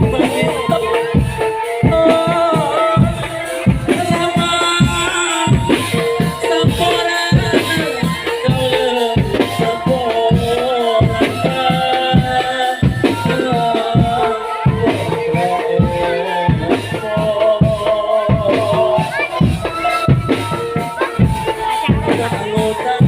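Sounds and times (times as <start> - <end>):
drums beating steady rhythm: 0.0 - 23.0.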